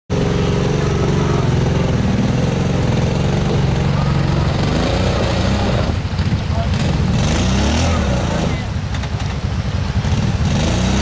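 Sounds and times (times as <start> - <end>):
engine running at low revs: 0.1 - 11.0.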